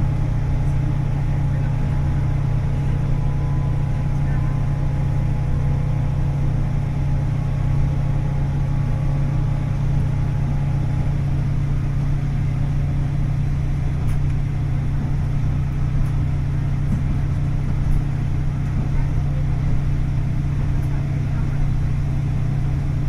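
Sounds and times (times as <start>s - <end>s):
railcar engine and wheels drone: 0.0s - 23.0s.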